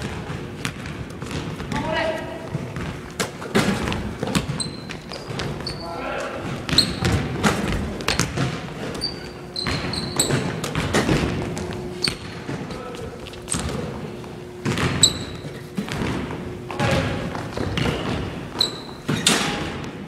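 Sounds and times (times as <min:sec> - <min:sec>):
basketball bouncing on hardwood floor: 0:00.0 - 0:05.8, 0:06.5 - 0:12.6, 0:14.6 - 0:20.0
sneaker squeaks: 0:00.0 - 0:19.9.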